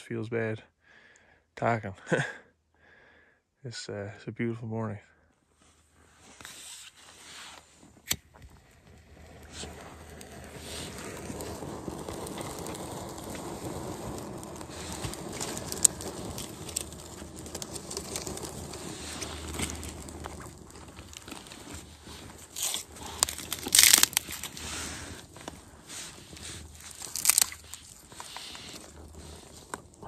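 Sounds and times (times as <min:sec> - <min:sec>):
lichen crackling as it burns: 0:05.6 - 0:30.0.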